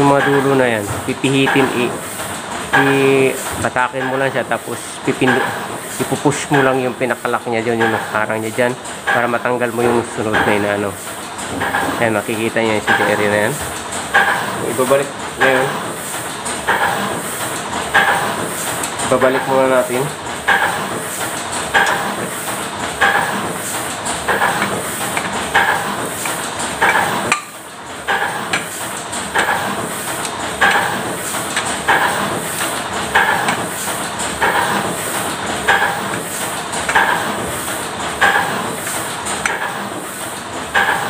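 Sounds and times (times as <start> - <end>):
machine running with hiss: 0.0 - 41.0.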